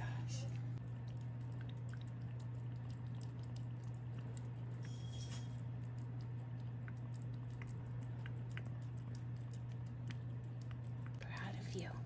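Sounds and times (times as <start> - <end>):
steady low hum: 0.0 - 12.0
cat chewing and licking: 0.8 - 12.0.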